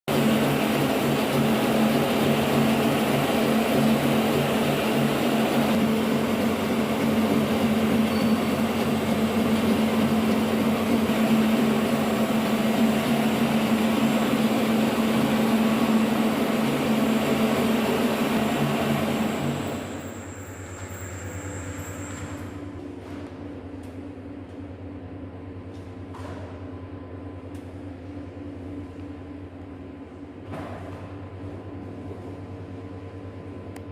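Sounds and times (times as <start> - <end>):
noodle machine mechanical hum: 0.1 - 33.9.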